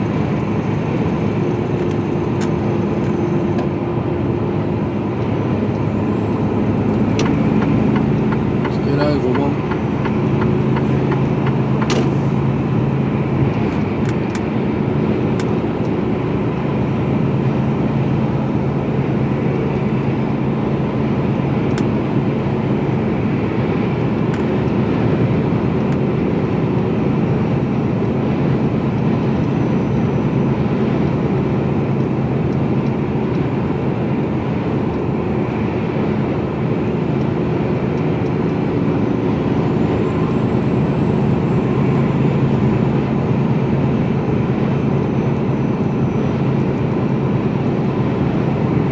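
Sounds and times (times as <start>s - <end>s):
lorry engine drone: 0.0s - 48.9s
road and tyre noise: 0.0s - 48.9s.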